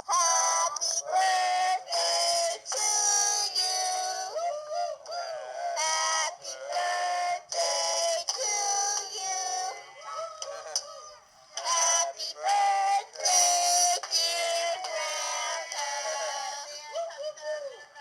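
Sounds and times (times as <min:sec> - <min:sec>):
person singing high-pitched: 0:00.0 - 0:18.0.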